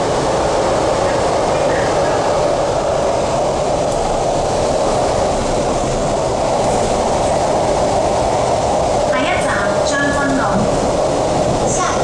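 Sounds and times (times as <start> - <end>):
train rolling rumble: 0.0 - 12.0.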